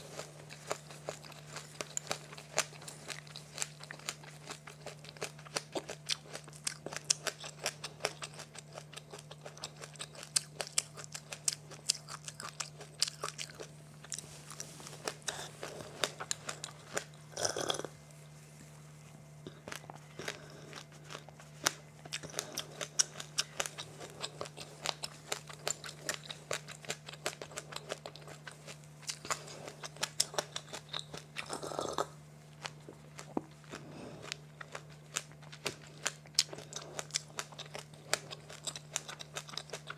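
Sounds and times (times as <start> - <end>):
person chewing crunchy snack: 0.0 - 18.0, 19.4 - 39.9.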